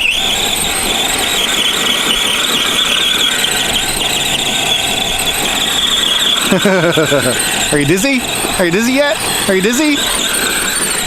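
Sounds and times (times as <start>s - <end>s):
electric motor whine: 0.0s - 11.0s
tyre and gear noise: 0.0s - 11.0s.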